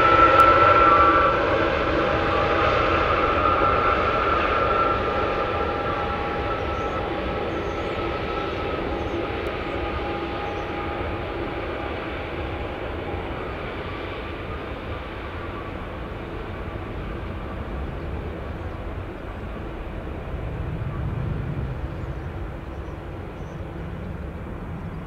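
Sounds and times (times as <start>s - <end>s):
jet engines whining: 0.0s - 25.0s.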